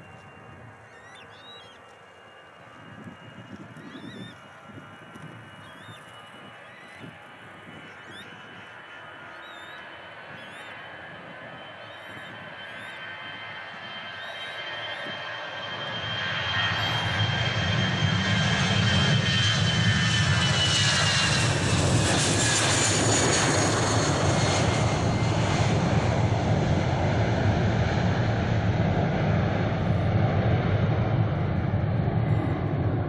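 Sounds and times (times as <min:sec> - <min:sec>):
high engine whine: 0:00.0 - 0:33.0
jet engine rumble: 0:00.0 - 0:33.0.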